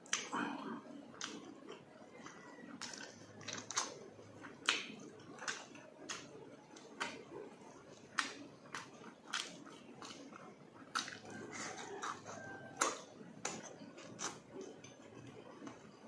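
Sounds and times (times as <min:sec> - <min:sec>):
wet chewing and lip smacks: 0:00.0 - 0:16.0.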